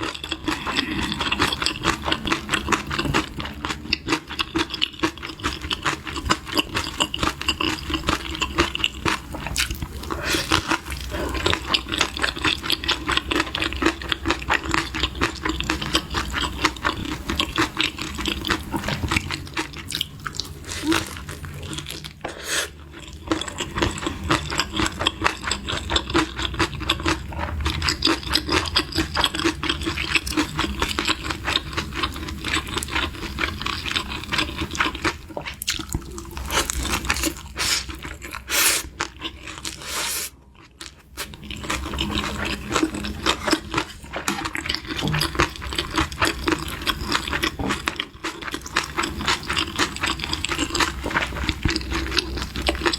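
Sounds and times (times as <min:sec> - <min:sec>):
chewing food crunches: 0:00.0 - 0:52.9.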